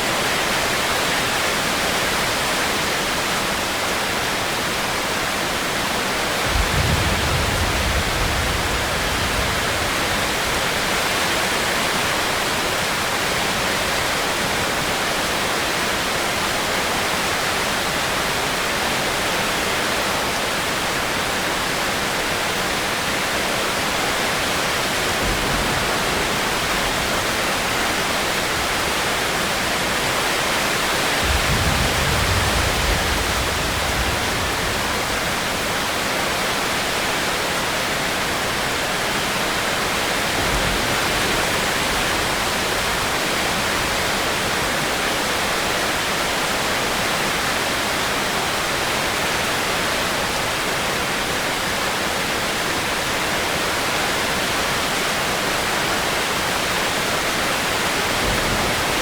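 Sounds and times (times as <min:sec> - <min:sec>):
dense rain hiss: 0:00.0 - 0:59.0.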